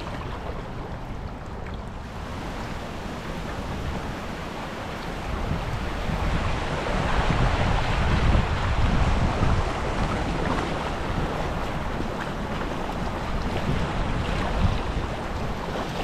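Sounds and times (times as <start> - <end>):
river water washing around kayak: 0.0 - 16.0
wind buffeting microphone: 0.0 - 16.0.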